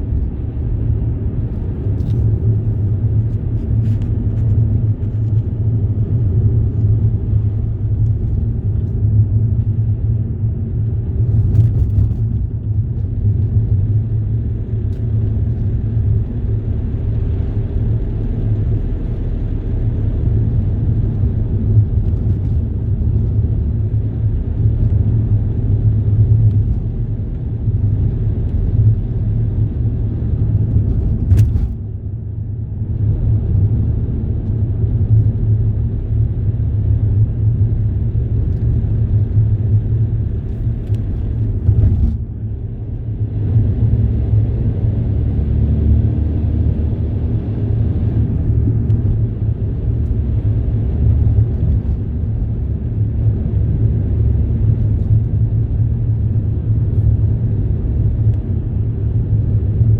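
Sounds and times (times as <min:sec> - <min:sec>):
vehicle rumble in motion: 0:00.0 - 0:59.9.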